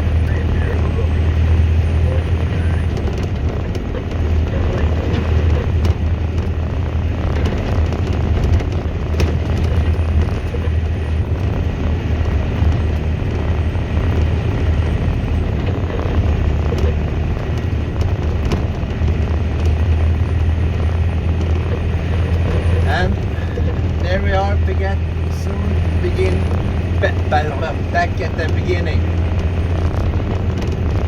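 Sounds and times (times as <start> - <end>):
diesel truck engine droning: 0.0 - 31.0
knocks and rattles: 2.2 - 31.0.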